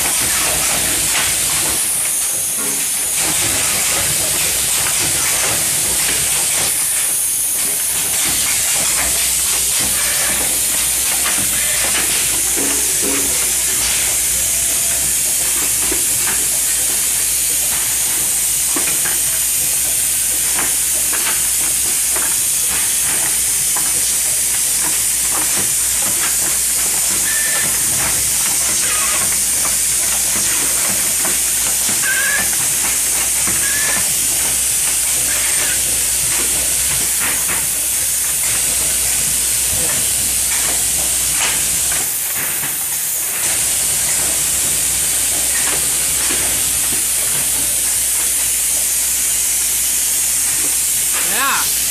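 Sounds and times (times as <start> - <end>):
loud high hiss of filling machine: 0.0 - 51.9
low machine hum: 0.0 - 51.9
machinery clicks and clatter: 0.0 - 51.9.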